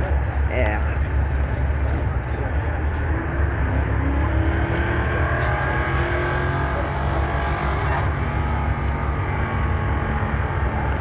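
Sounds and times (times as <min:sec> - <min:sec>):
truck engine accelerating: 0:00.0 - 0:11.0
truck engines rumbling: 0:00.0 - 0:11.0.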